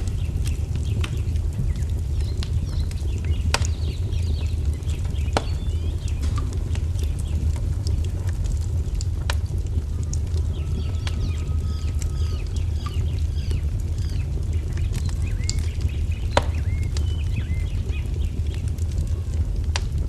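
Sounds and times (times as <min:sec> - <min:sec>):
birds chirping faintly: 0:00.0 - 0:18.9
wood fire crackling: 0:00.0 - 0:20.0.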